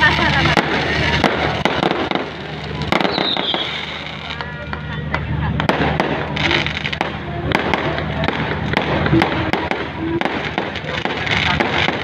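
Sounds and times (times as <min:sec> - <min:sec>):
continuous rumble: 0:00.0 - 0:12.0
fireworks bangs and pops: 0:00.0 - 0:12.0.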